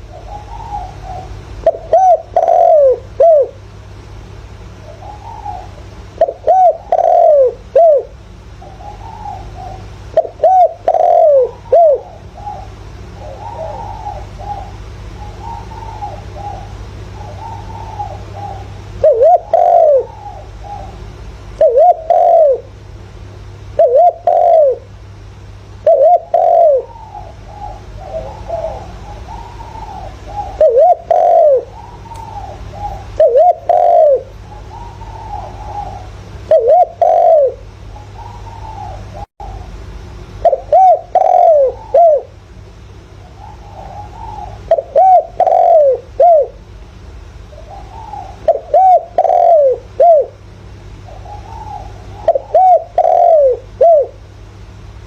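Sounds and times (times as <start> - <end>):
dove cooing: 0.0 - 3.8, 4.6 - 22.8, 23.6 - 25.0, 25.8 - 42.5, 43.2 - 46.7, 47.4 - 55.0
steady low hum: 0.0 - 55.0.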